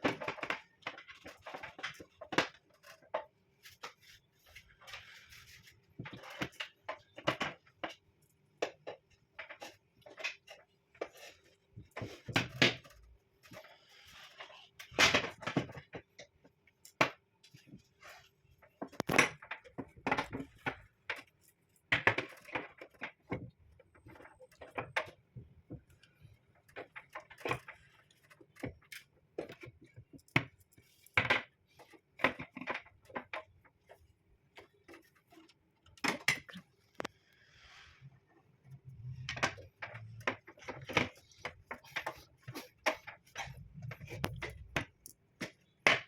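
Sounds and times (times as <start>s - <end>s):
hard objects knocking and clattering: 0.0s - 37.1s, 38.6s - 46.0s.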